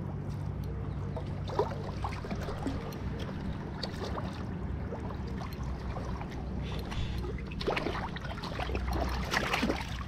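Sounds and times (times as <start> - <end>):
shallow water sloshing: 1.1 - 10.0
sharp water splashes: 1.4 - 10.0.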